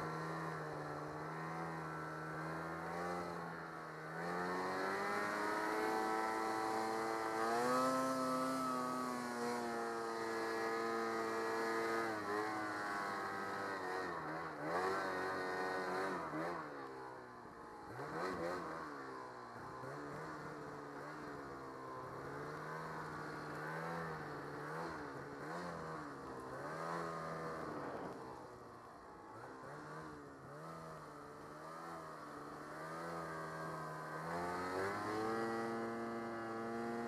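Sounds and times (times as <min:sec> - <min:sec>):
snowmobile engine revving: 0:00.0 - 0:17.0, 0:17.9 - 0:28.6, 0:29.3 - 0:37.0.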